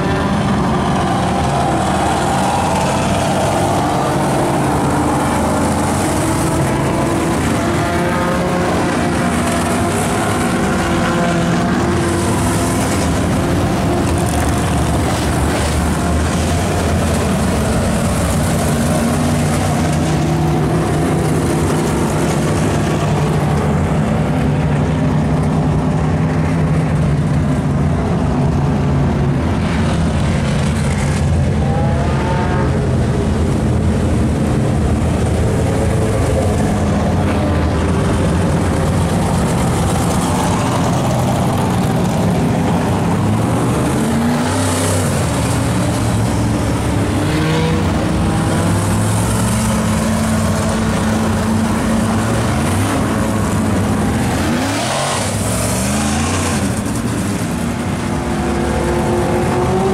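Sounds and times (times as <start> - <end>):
race car engines running: 0.0 - 59.9.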